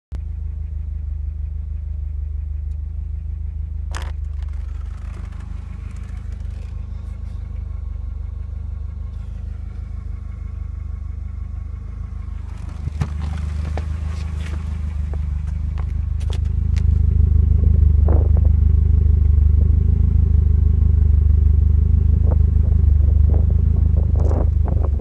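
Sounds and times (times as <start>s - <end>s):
car engine idling roughly: 0.2s - 25.0s.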